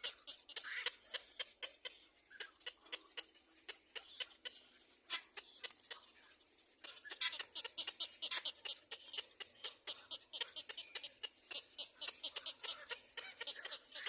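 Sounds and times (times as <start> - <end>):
baby birds chirping: 0.0 - 14.0.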